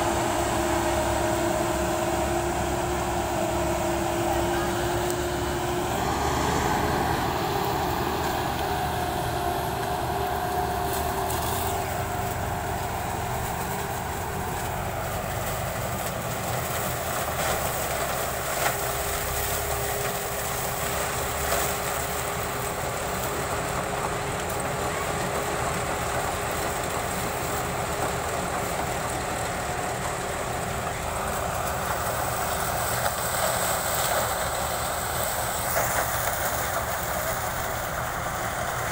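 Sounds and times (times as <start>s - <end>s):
harvester engine and machinery: 0.0s - 38.9s.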